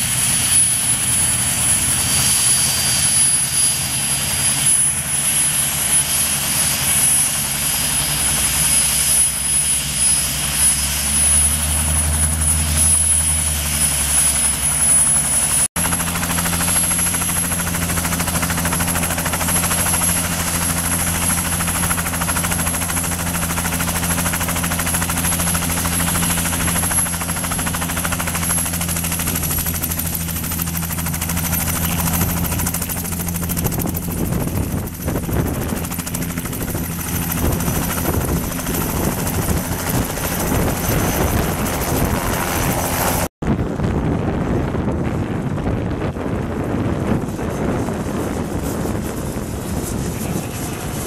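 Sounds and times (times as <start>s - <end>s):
helicopter rotor hum: 0.0s - 51.0s
high turbine whine: 0.0s - 51.0s.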